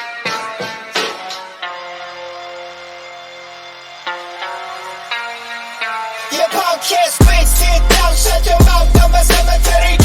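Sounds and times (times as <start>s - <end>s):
music with plucked beats: 0.0s - 2.6s, 4.0s - 10.0s.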